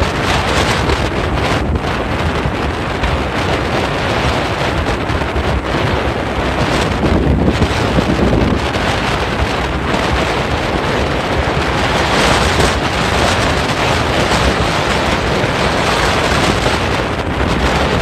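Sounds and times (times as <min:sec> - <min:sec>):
motorboat engine: 0:00.0 - 0:18.0
water rushing past hull: 0:00.0 - 0:18.0
wind on microphone: 0:00.0 - 0:18.0.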